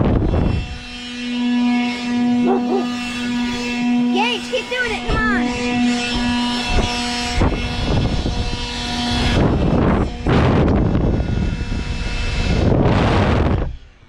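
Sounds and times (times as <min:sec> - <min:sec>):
wind buffeting microphone: 0:00.0 - 0:01.4, 0:02.0 - 0:14.0
blower motor hum: 0:00.0 - 0:14.0.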